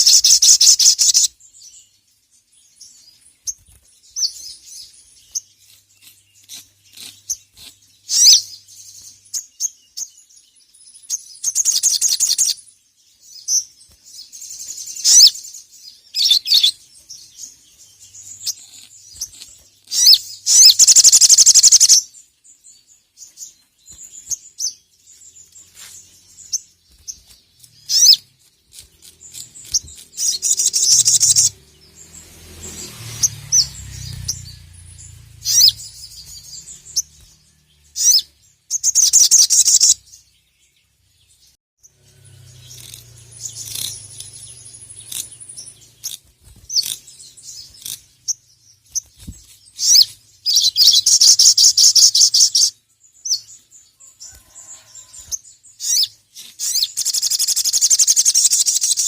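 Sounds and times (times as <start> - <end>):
bird singing chirps and trills: 0.0 - 59.0.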